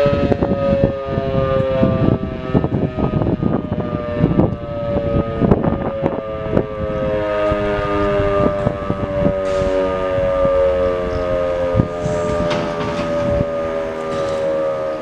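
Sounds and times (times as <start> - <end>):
rotary siren steady tone: 0.0 - 15.0.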